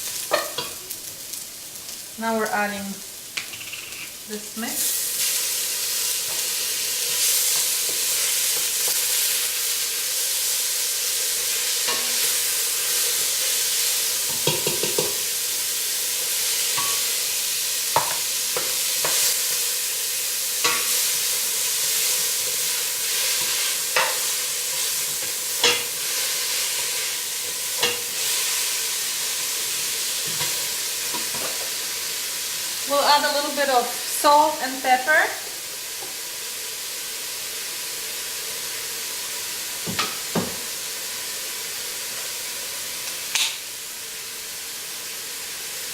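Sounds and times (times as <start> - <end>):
food sizzling in hot oil: 0.0 - 45.9.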